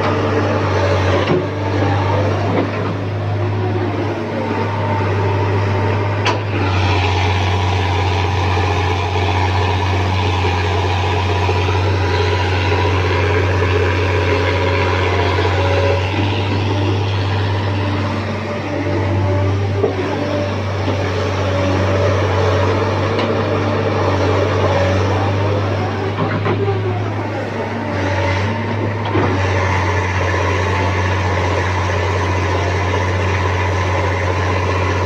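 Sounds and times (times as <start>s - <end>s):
diesel engines running: 0.0s - 35.0s.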